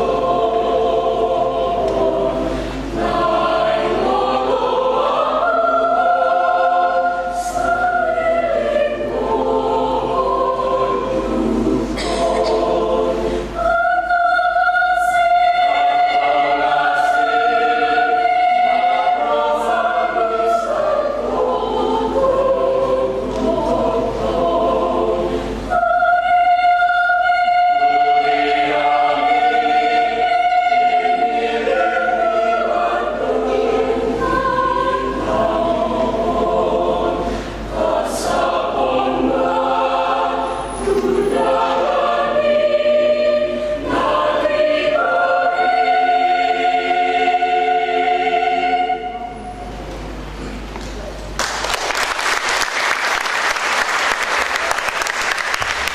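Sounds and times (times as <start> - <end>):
choir singing a hymn: 0.0 - 50.4.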